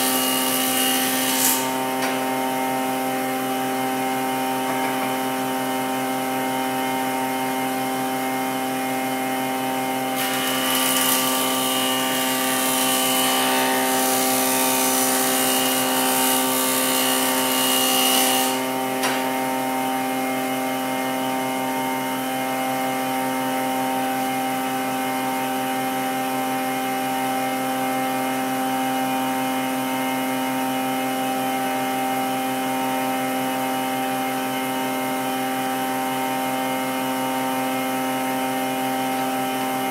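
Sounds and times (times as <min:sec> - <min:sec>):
woodworking machine humming: 0:00.0 - 0:39.9.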